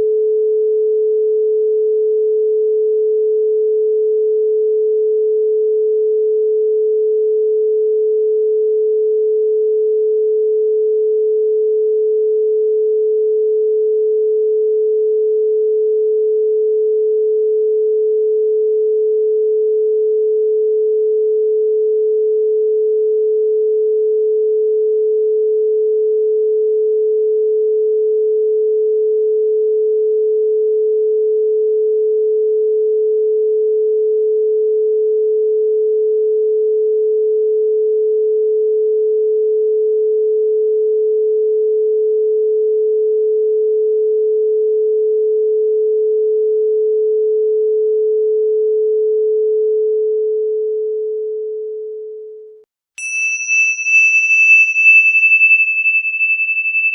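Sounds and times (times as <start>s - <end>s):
pure sine tone: 0.0s - 56.9s.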